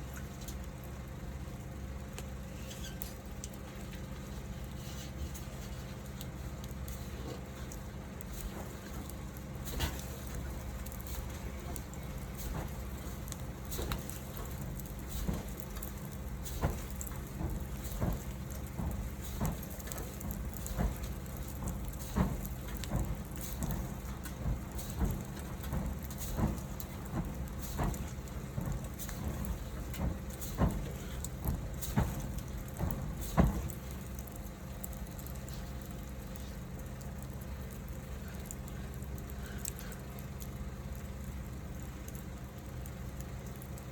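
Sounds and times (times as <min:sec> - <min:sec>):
fire hissing: 0:00.0 - 0:43.9
wood fire crackles and pops: 0:00.0 - 0:43.9.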